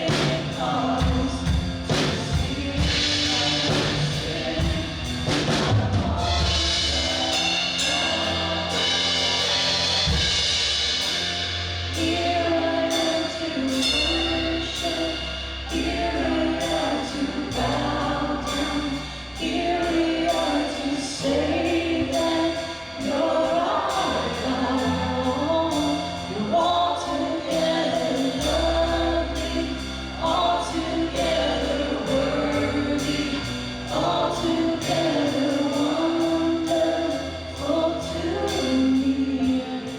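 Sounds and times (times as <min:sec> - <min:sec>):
singers singing together: 0:00.0 - 0:39.9
worship band playing: 0:00.0 - 0:39.9.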